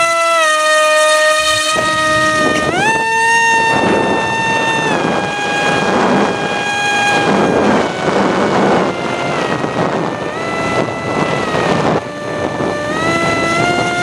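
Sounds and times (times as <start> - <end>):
model airplane motor whining: 0.0 - 14.0
wind rushing over microphone: 1.4 - 14.0.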